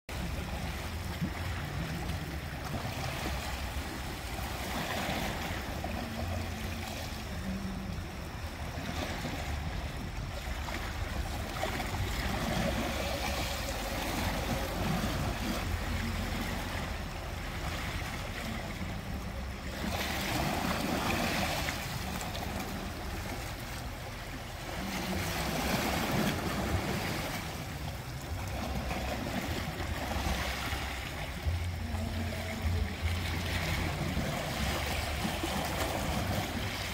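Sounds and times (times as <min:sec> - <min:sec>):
sea waves lapping against rocks: 0:00.1 - 0:36.9.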